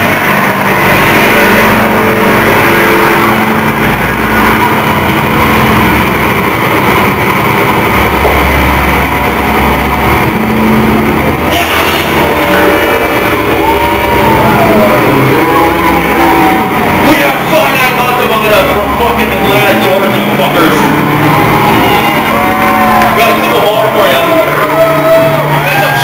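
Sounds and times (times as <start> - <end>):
distorted industrial rock band: 0.0 - 26.0.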